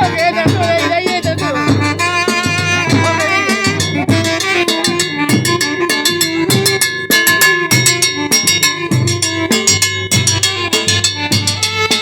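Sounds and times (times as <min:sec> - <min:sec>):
latin dance band playing: 0:00.0 - 0:12.0.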